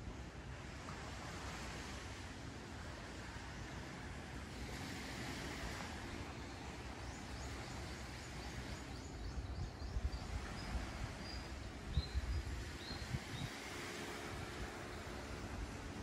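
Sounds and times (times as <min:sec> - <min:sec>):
surf and wind rushing: 0:00.0 - 0:16.0.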